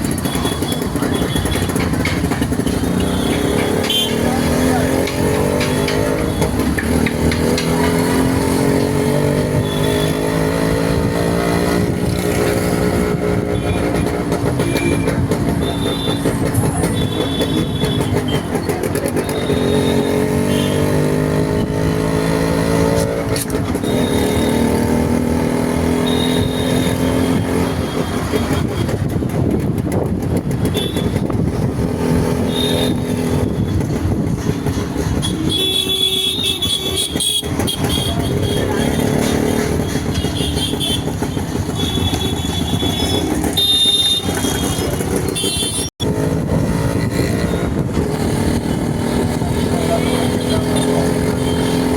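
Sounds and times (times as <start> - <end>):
motorcycle engine revving: 0.0 - 51.9
road and wind noise: 0.0 - 51.9.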